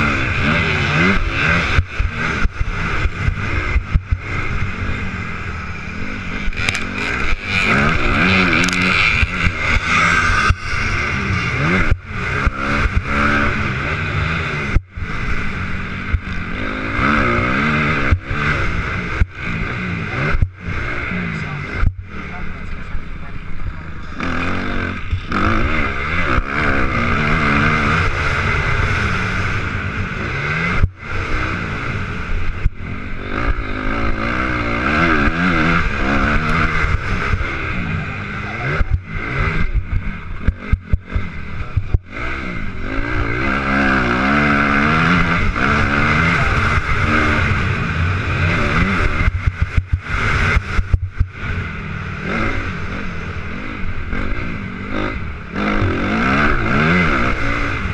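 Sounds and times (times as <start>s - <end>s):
motocross bike engine revving: 0.0s - 57.9s.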